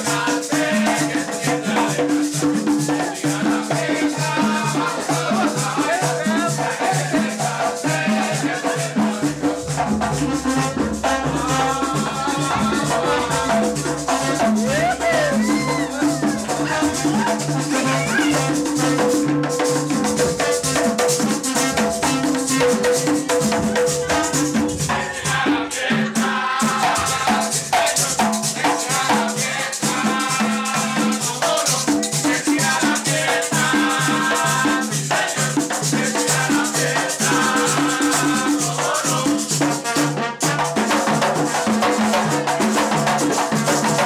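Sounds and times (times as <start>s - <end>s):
hand drums in driving rhythm: 0.0s - 44.0s
shaken or scraped percussion: 0.0s - 44.0s
singing: 0.0s - 44.0s.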